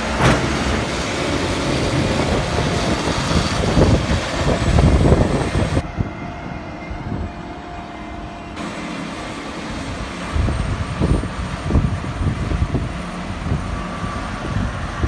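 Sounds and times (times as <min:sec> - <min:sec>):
wind buffeting microphone: 0:00.0 - 0:07.7, 0:09.6 - 0:15.0
diesel engines running: 0:00.0 - 0:15.0.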